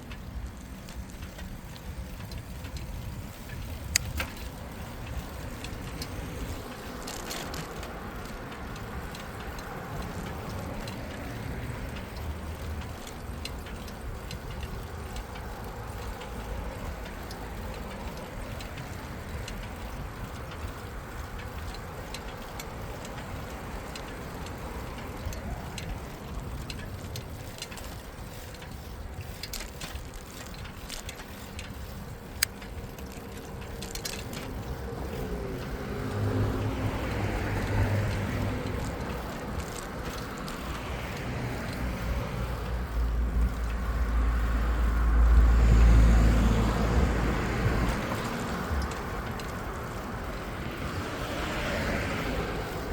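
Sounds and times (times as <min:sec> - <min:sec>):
bicycle clicks and ticks: 0:00.0 - 0:52.9
passing vehicle engine hum: 0:00.0 - 0:52.9
tyre and wind noise: 0:00.0 - 0:52.9.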